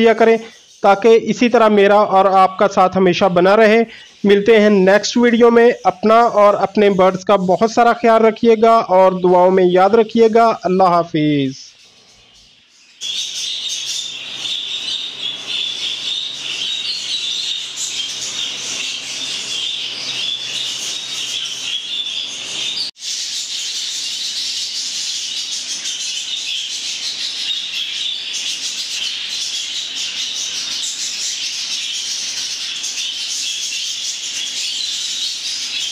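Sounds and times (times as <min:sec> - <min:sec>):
budgerigars chattering and chirping: 0:00.0 - 0:35.9.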